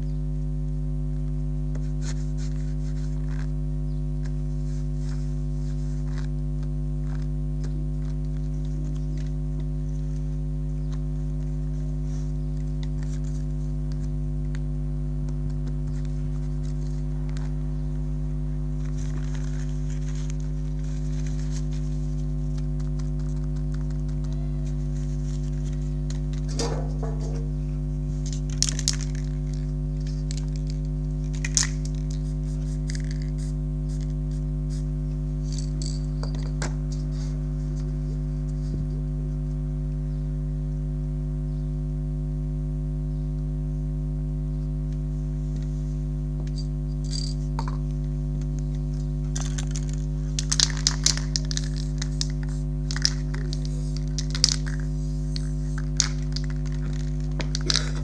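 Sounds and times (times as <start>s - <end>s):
low droning hum: 0.0s - 58.0s.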